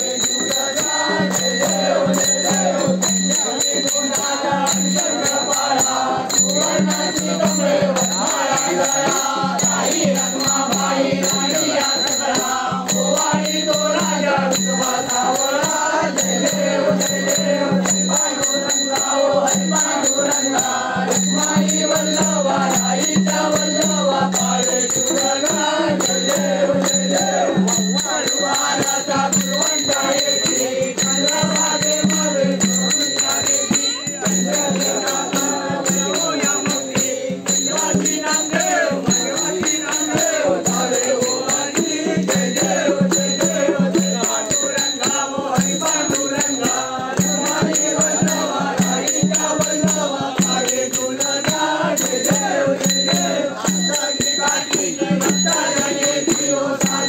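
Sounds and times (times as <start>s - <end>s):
group singing devotional song: 0.0s - 57.0s
rattling percussion: 0.0s - 57.0s.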